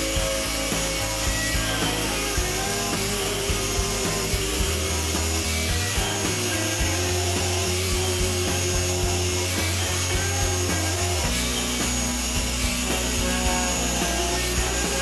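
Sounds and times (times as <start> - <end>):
angle grinder cutting wood: 0.0 - 15.0
background music with low notes: 0.0 - 15.0.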